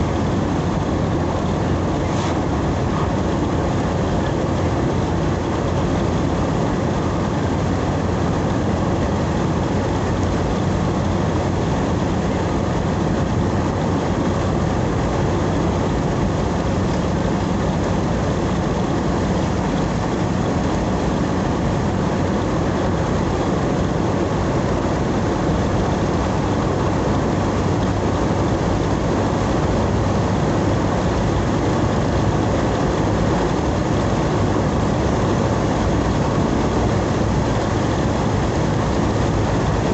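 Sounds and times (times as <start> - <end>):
road noise: 0.0 - 39.9
vehicle engine drone: 0.0 - 39.9.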